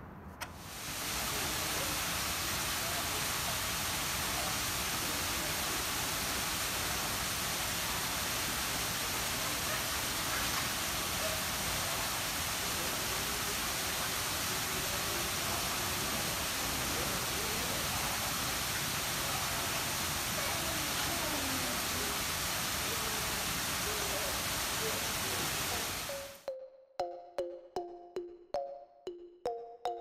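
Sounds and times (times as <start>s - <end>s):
steady background hiss: 0.0s - 26.4s
faint distant voices: 0.9s - 26.4s.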